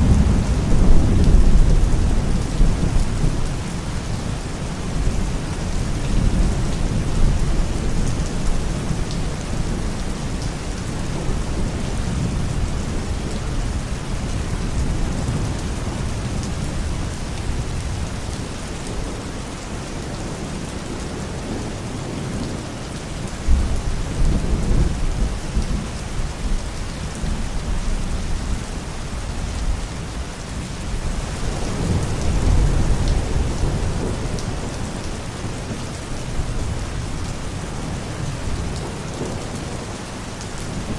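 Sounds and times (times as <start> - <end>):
low thunder rumbling: 0.0 - 40.0
heavy rain hissing: 0.0 - 40.9.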